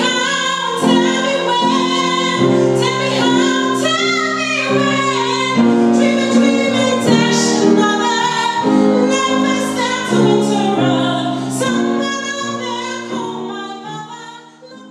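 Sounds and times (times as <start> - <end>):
piano accompaniment: 0.0 - 14.9
woman singing: 0.0 - 14.9.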